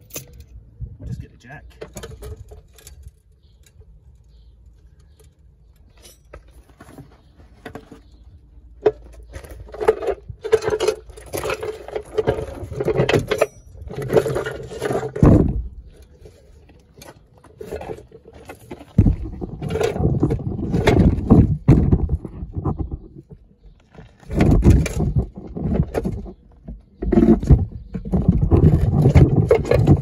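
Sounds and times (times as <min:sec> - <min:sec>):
metal car jack clattering and scraping: 0:01.7 - 0:23.0, 0:23.9 - 0:30.0.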